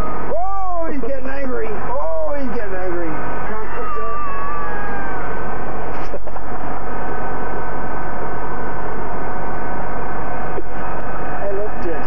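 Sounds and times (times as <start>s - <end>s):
low hum: 0.0s - 12.0s
vehicle interior drone: 0.0s - 12.0s.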